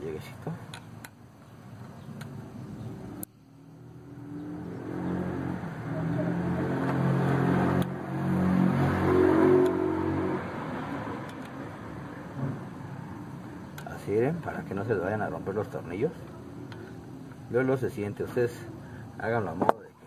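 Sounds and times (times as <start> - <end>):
vehicle engine humming: 0.0 - 19.4.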